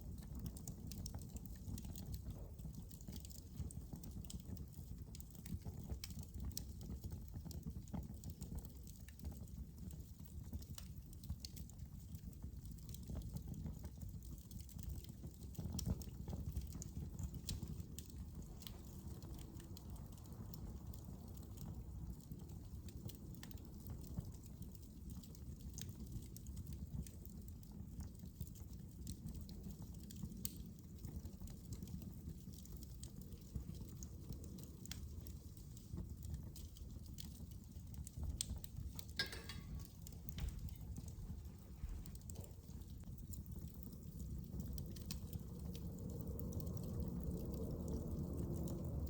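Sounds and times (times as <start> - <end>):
fire crackling and popping: 0.0 - 49.0
low rumble of flames: 0.0 - 49.0.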